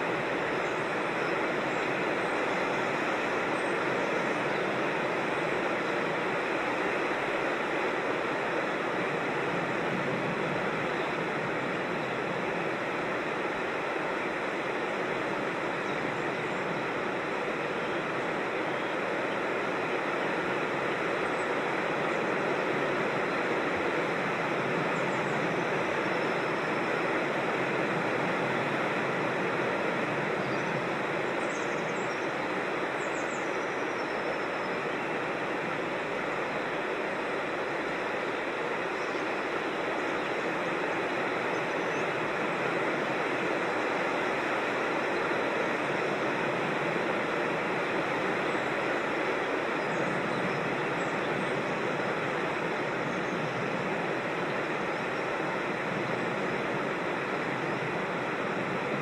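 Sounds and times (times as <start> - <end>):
rushing creek water: 0.0 - 59.0.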